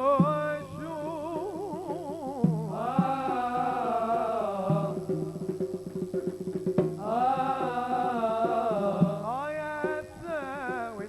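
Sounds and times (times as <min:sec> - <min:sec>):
fast drum strokes: 0:00.0 - 0:11.0.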